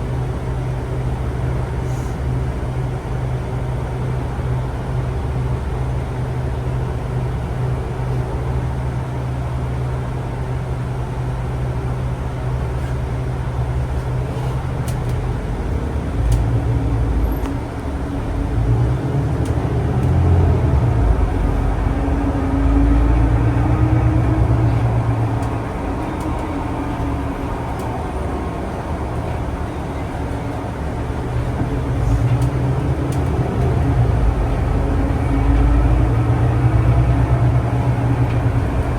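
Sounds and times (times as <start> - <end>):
vehicle interior rumble and hum: 0.0 - 38.9.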